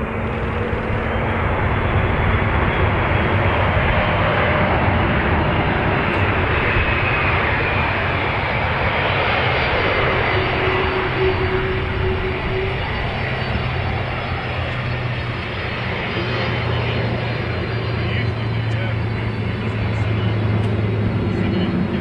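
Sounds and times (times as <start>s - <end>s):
aircraft engines running: 0.0s - 22.0s.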